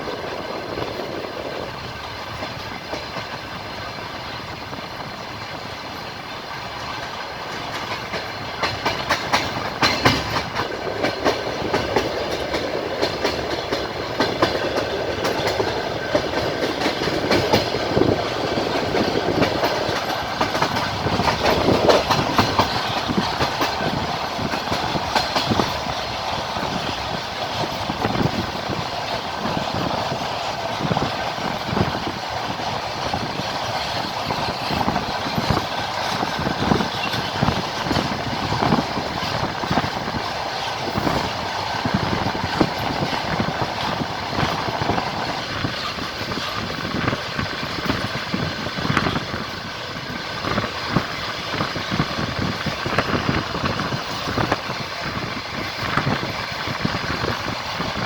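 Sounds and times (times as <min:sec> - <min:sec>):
train carriage rumble: 0:00.0 - 0:58.0
wheels clacking over rail joints: 0:00.0 - 0:58.0.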